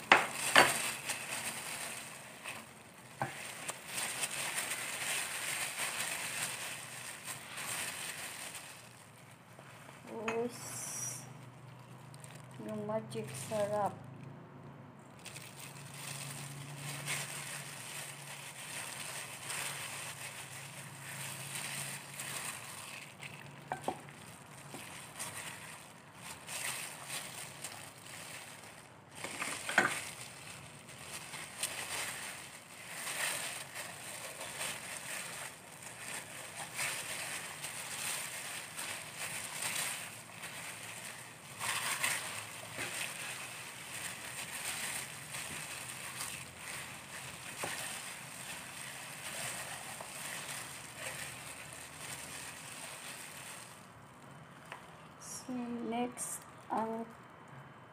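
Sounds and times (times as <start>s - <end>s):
plastic gloves crinkling: 0.0s - 14.3s, 15.0s - 57.1s.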